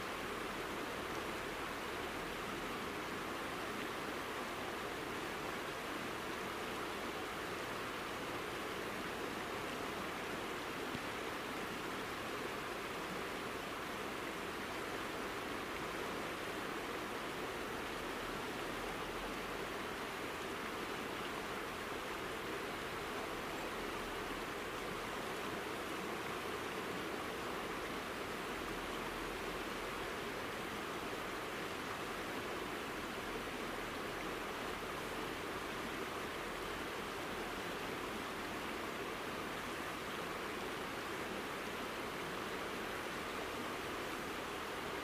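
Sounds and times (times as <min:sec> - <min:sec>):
river rushing over stones: 0:00.0 - 0:45.0.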